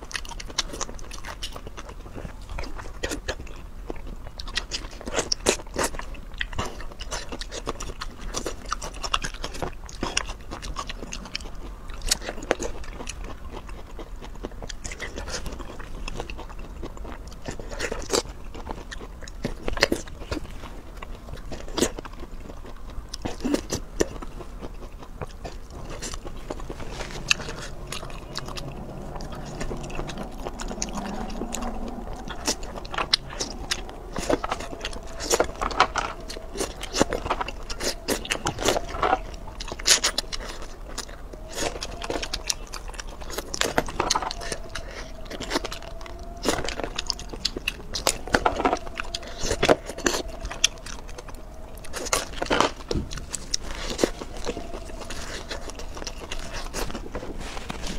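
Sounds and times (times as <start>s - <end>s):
wet chewing and mouth clicks: 0.0s - 57.9s.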